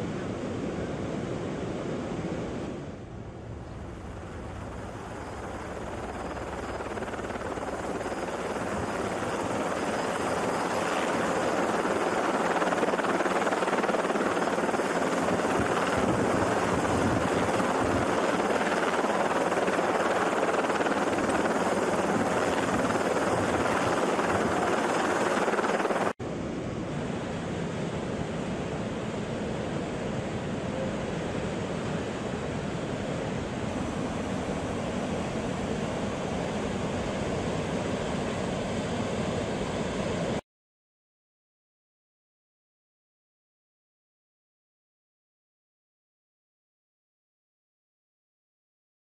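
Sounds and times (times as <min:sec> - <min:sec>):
helicopter rotor and engine drone: 0:00.1 - 0:40.4.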